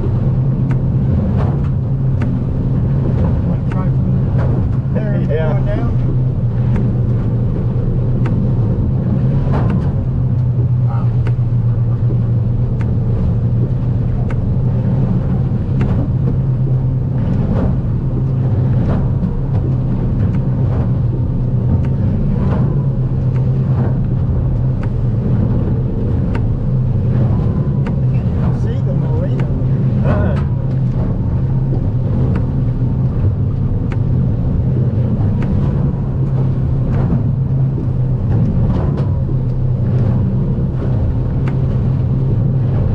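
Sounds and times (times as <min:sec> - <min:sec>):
boat hull knocks and rattles: 0:00.0 - 0:42.9
outboard motor running: 0:00.0 - 0:42.9.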